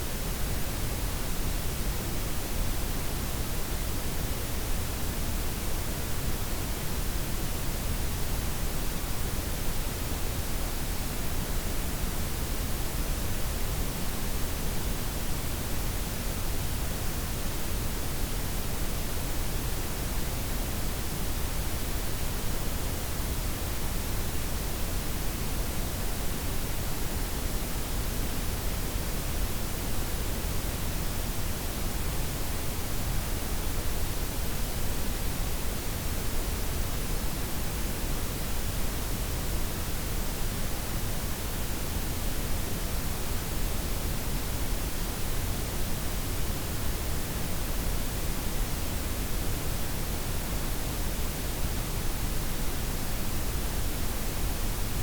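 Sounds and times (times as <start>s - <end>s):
steady noise hiss with deep rumble: 0.0s - 55.0s.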